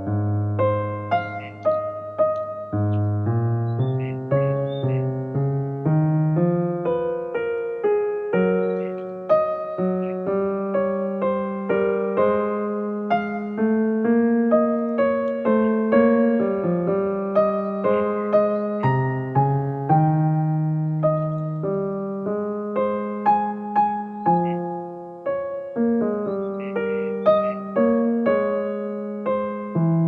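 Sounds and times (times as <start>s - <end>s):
soft keyboard music: 0.0s - 30.0s.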